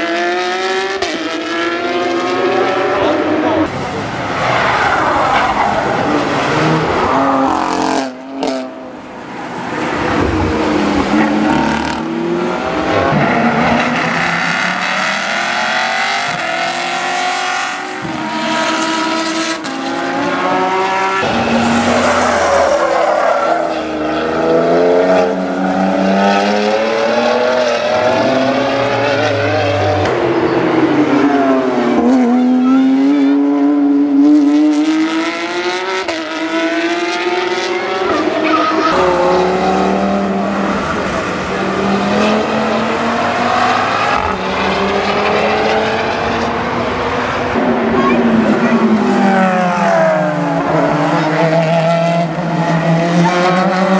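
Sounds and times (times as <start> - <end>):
race car engines revving: 0.0 - 53.9.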